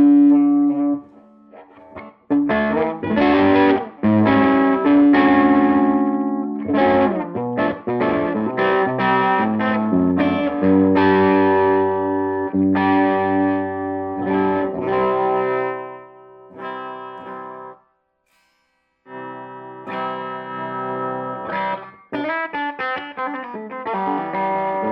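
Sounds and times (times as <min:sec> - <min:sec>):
overdriven electric guitar chords: 0:00.0 - 0:24.9.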